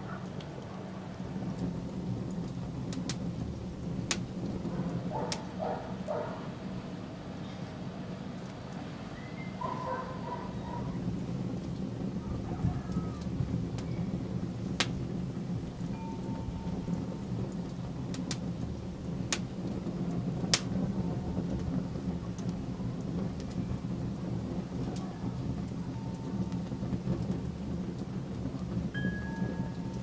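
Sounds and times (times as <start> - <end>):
fire crackling pops: 0.0 - 30.0
wood fire burning: 0.0 - 30.0.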